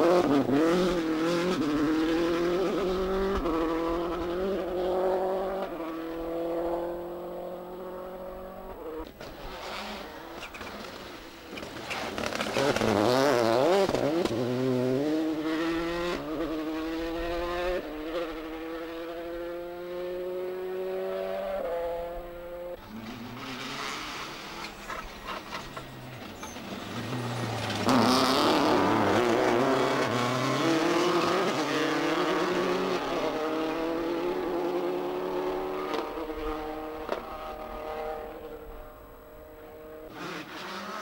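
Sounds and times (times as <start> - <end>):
rally car engines at full throttle: 0.0 - 41.0.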